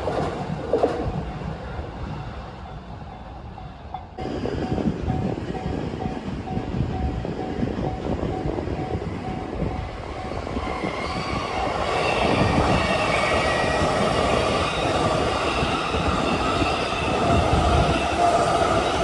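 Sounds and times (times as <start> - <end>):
train running past on rails: 0.0 - 19.0.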